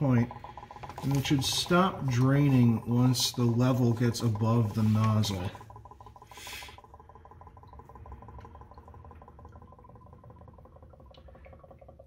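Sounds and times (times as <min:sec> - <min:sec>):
fluid bubbling in a bottle: 0:00.0 - 0:12.0.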